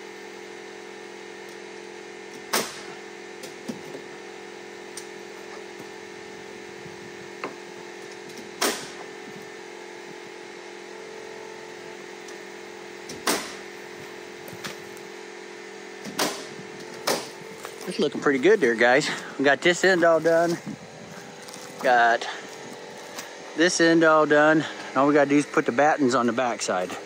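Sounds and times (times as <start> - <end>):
steady engine-like hum: 0.0 - 27.0.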